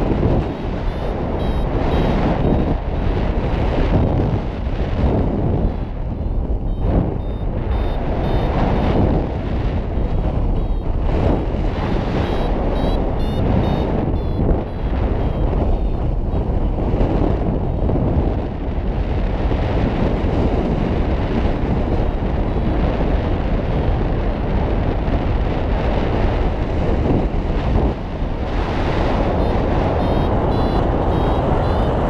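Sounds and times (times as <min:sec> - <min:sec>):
wind noise with deep rumble: 0:00.0 - 0:32.0.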